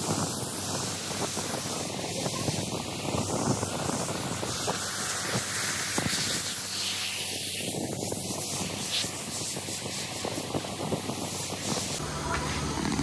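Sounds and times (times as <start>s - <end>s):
water spraying onto car: 0.0s - 13.0s.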